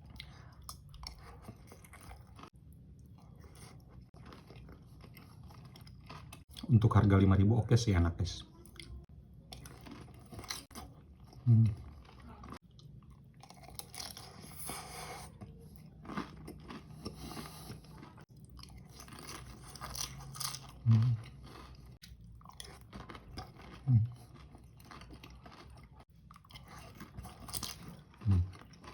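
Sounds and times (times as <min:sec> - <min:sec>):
crunchy chewing: 0:00.0 - 0:06.7, 0:09.5 - 0:28.9.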